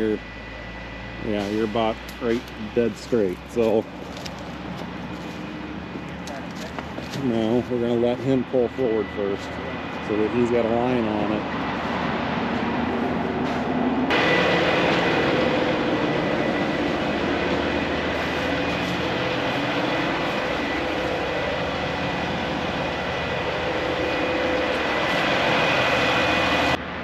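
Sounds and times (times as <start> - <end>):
diesel truck engine running: 0.0 - 27.0
thin steady whine: 0.0 - 27.0.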